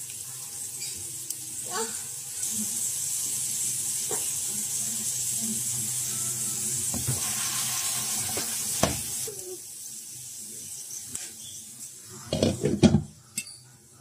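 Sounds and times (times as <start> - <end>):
oil sizzling in pan: 0.0 - 12.9.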